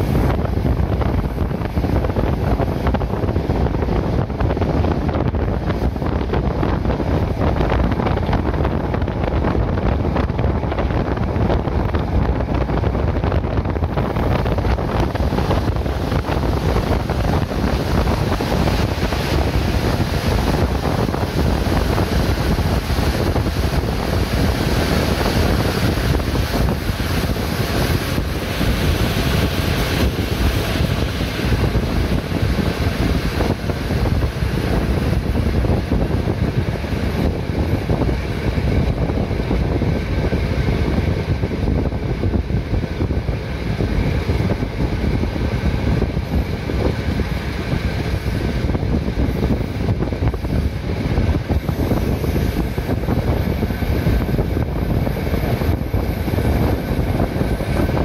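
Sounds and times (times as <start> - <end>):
train running noise: 0.0 - 58.0
wind buffeting microphone: 0.0 - 58.0.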